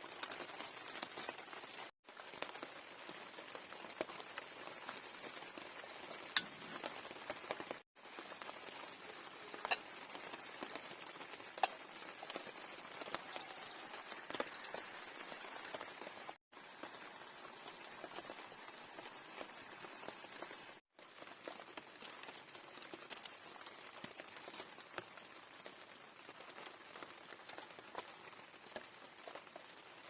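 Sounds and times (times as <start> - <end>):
rain pattering: 0.1 - 30.0.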